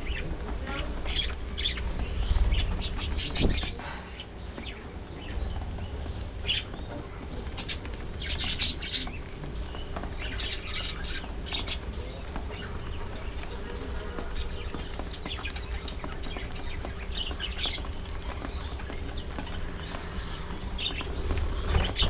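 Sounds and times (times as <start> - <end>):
budgerigars chirping: 0.0 - 3.8, 4.7 - 22.0.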